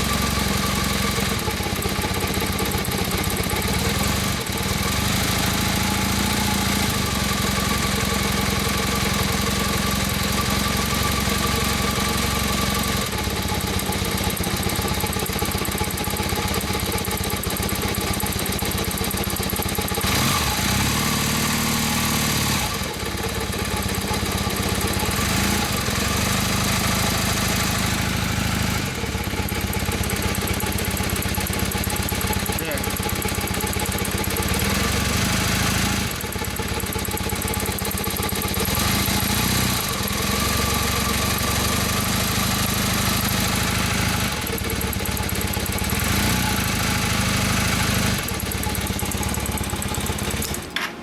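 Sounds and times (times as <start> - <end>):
motorcycle engine idling: 0.0 - 51.0.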